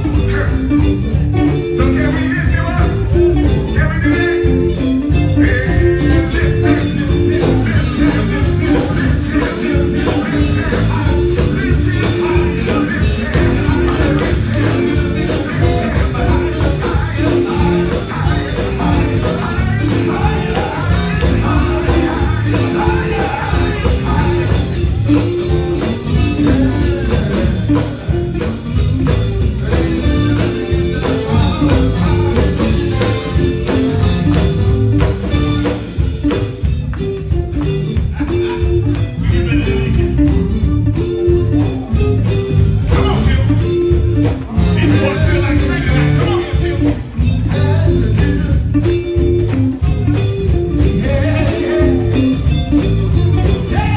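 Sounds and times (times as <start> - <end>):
gospel band playing: 0.0 - 53.9
tambourine: 0.0 - 53.9
voices singing: 0.0 - 53.9.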